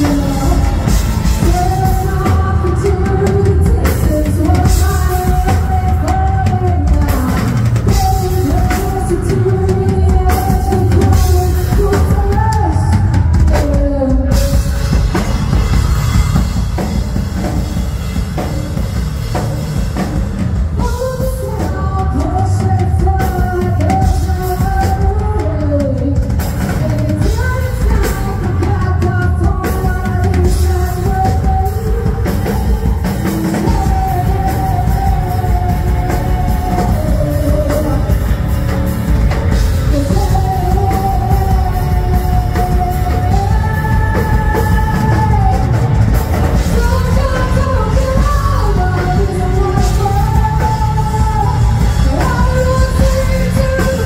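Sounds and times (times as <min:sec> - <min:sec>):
bass guitar: 0:00.0 - 0:54.0
drum kit: 0:00.0 - 0:54.0
electric guitars: 0:00.0 - 0:54.0
lead vocals: 0:00.0 - 0:54.0.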